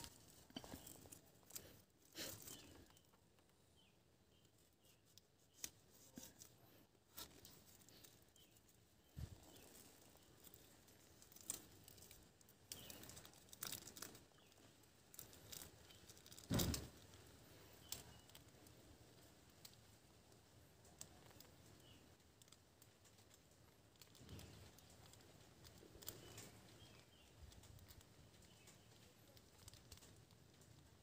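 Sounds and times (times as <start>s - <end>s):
plastic bag crinkling: 0.0s - 3.2s, 4.5s - 19.8s, 20.8s - 31.0s.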